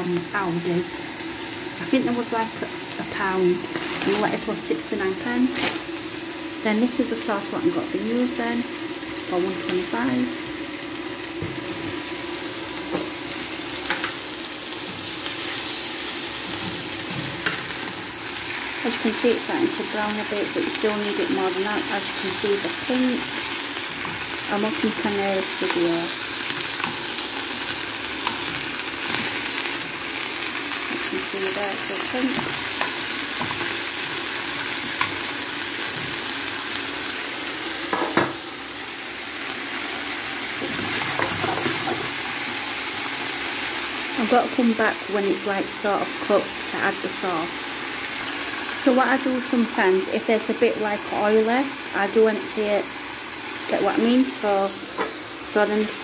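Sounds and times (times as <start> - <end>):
chicken sizzling in frying pan: 0.0 - 56.0.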